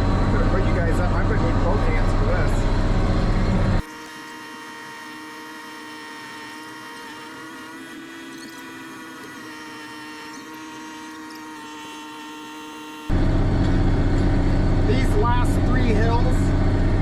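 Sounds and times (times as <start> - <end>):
electrical hum and whine: 0.0 - 17.0.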